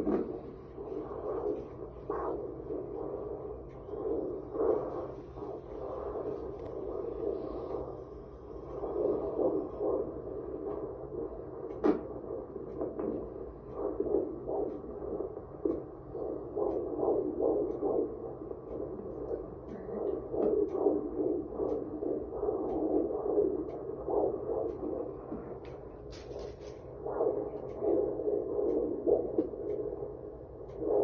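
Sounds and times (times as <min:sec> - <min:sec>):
fetal heartbeat doppler whooshing: 0:00.0 - 0:31.0.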